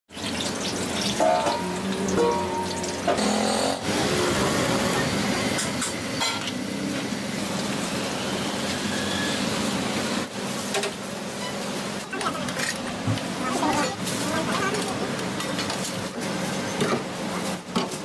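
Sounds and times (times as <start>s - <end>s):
oil sizzling deep-frying: 0.1s - 18.0s.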